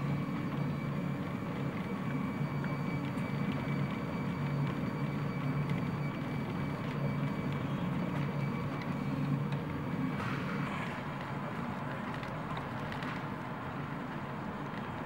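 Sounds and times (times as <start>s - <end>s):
high constant whine: 0.0s - 15.0s
printer motors humming: 0.0s - 15.0s.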